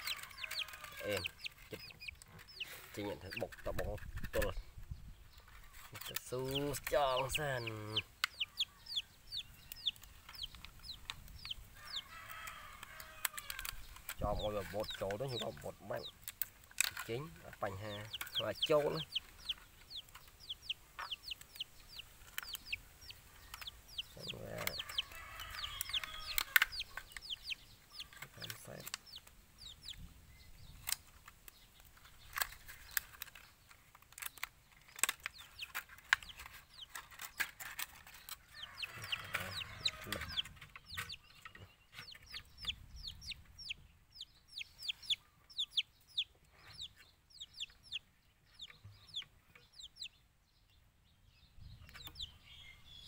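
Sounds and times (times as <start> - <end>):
chickens clucking: 0.0 - 50.3, 51.7 - 52.6.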